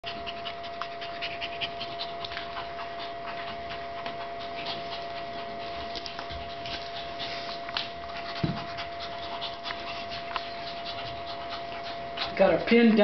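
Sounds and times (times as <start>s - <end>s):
dogs panting: 0.0s - 13.0s
dogs scuffling: 0.2s - 13.0s.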